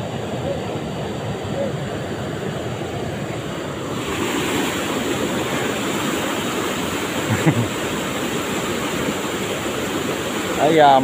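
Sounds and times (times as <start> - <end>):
river rapids rushing over rocks: 0.1 - 11.0.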